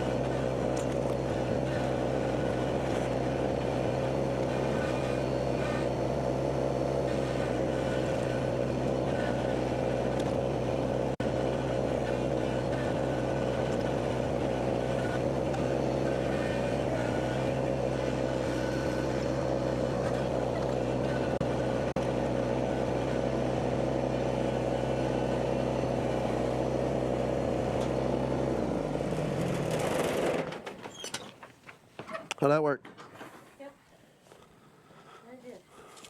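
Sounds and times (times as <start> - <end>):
engine running steadily: 0.0 - 30.7.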